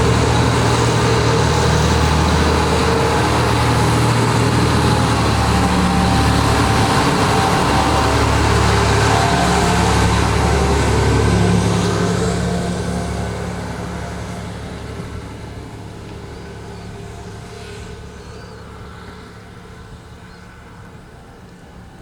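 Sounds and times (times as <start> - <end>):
diesel railcar engine humming: 0.0 - 22.0.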